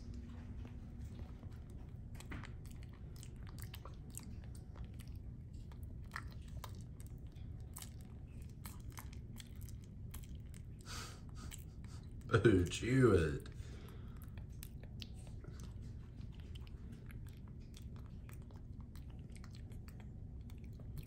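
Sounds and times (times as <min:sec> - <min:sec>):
monkey chewing with mouth smacks: 0:00.0 - 0:21.0.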